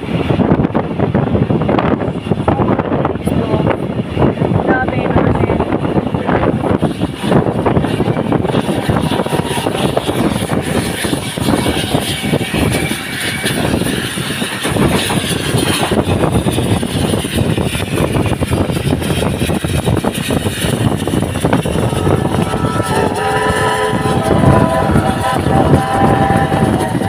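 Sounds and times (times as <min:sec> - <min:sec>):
steam train rumble and clatter: 0:00.0 - 0:27.0.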